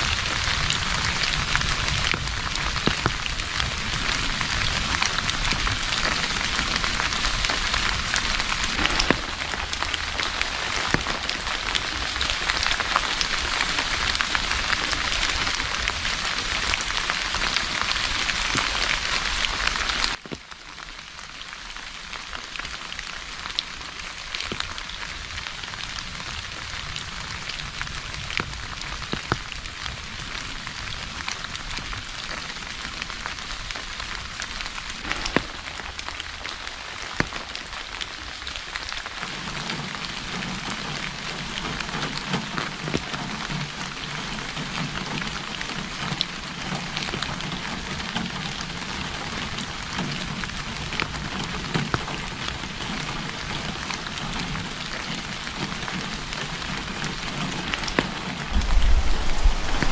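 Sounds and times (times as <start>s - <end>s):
raindrop ticks: 0.0s - 59.9s
steady rain falling: 0.0s - 59.9s.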